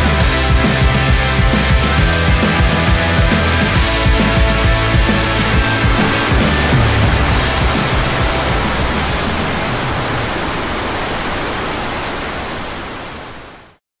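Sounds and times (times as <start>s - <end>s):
water rushing over weir: 2.4s - 13.8s.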